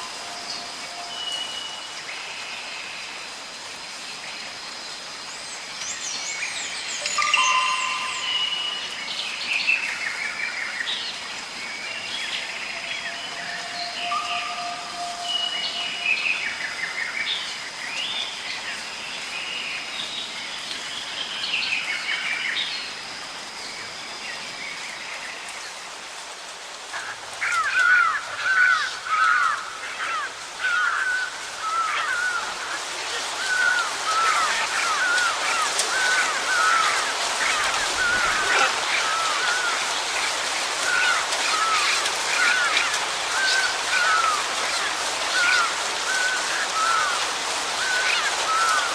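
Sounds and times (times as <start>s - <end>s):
steady hiss: 0.0s - 48.9s
birds singing and chirping: 4.3s - 23.0s, 27.4s - 48.9s.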